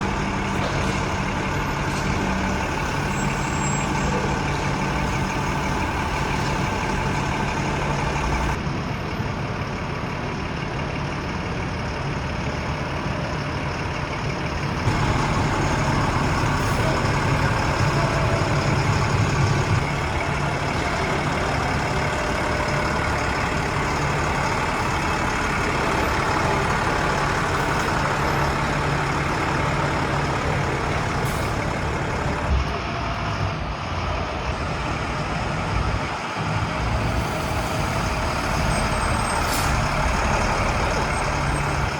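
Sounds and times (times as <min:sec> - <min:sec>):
truck engine droning: 0:00.0 - 0:41.9.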